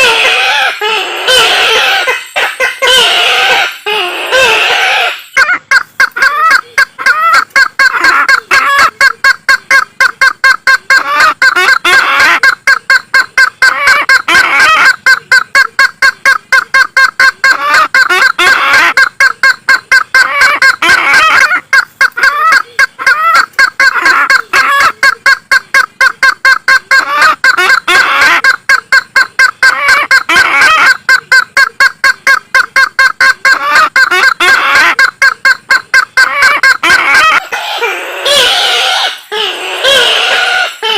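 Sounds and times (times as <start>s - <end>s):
bird calling harsh repeated notes: 0.0s - 40.9s.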